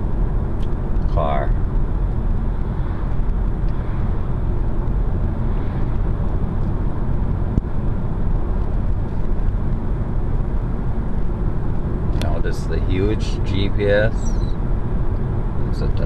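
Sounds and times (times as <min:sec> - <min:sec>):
road and tyre noise: 0:00.0 - 0:16.0.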